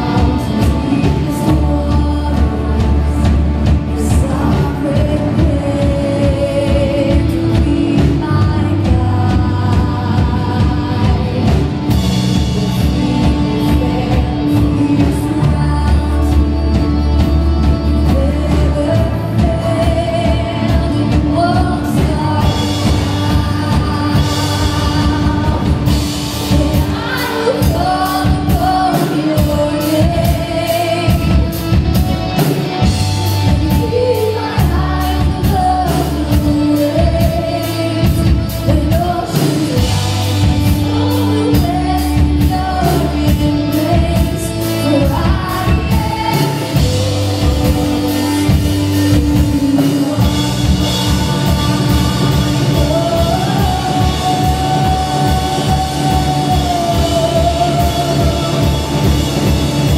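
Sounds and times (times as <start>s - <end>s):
person singing: 0.0s - 59.9s
worship band playing slow song: 0.0s - 59.9s.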